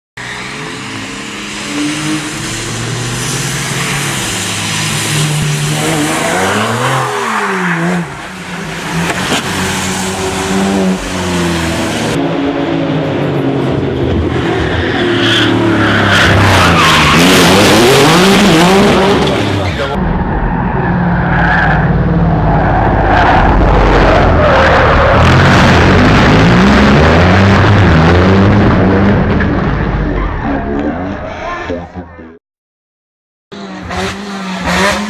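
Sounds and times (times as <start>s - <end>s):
sports car engines revving: 0.2s - 32.4s, 33.5s - 35.0s.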